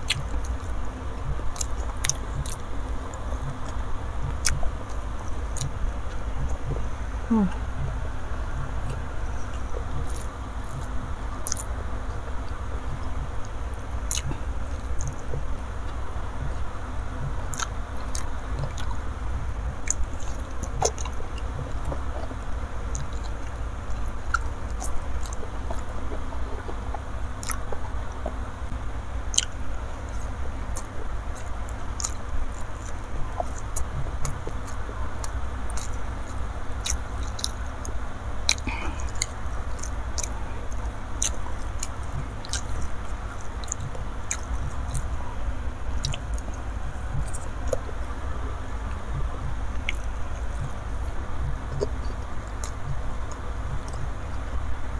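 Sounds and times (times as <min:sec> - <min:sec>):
wet mouth clicks: 0:00.0 - 0:11.8, 0:12.5 - 0:16.6, 0:17.5 - 0:23.6, 0:24.2 - 0:28.4, 0:29.3 - 0:45.2, 0:45.9 - 0:48.2, 0:48.8 - 0:54.5
chewing and biting food: 0:00.0 - 0:54.6
steady low hum: 0:00.0 - 0:54.9.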